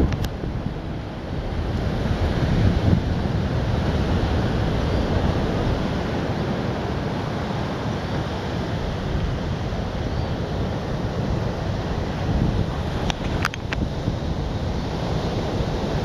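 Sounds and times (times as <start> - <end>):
ocean surf rushing: 0.0 - 16.0
wind buffeting microphone: 0.0 - 16.0.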